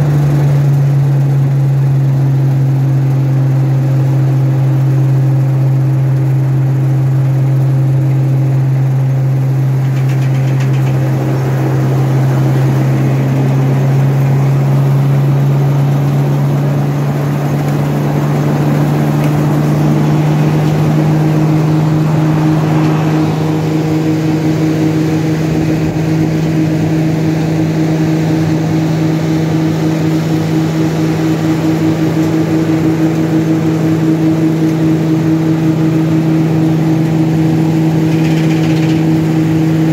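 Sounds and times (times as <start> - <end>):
harvester engine drone: 0.0 - 39.9
conveyors and threshing gear rushing: 7.9 - 39.9.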